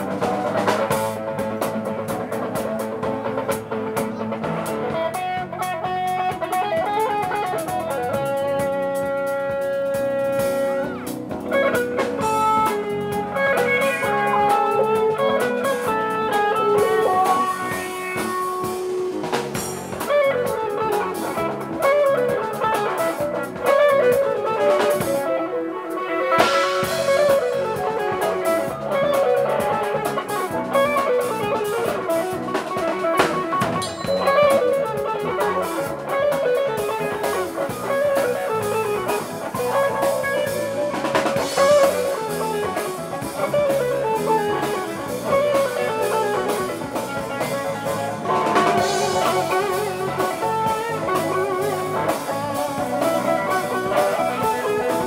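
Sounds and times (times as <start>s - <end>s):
drum kit: 0.0s - 55.0s
guitar playing falling phrases: 0.0s - 55.0s.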